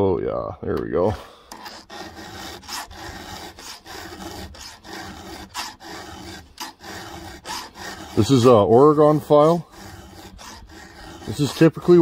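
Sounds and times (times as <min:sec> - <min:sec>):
file rasping on saw chain: 0:01.5 - 0:12.0.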